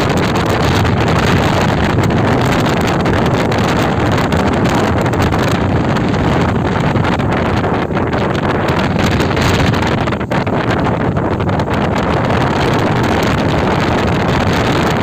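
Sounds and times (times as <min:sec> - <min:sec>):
boat motor: 0:00.0 - 0:15.0
hull rushing on water: 0:00.0 - 0:15.0
wind rushing over microphone: 0:00.0 - 0:15.0.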